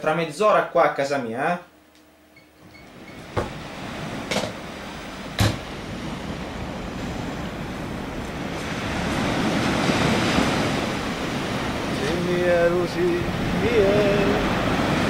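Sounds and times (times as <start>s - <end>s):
sea surf washing onto beach: 2.9s - 15.0s.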